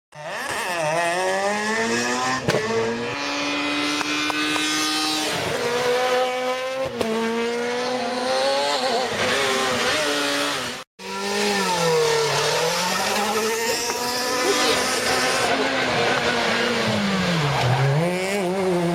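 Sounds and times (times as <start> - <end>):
rally car engine revving: 0.1 - 18.9
second rally car accelerating: 0.2 - 18.9.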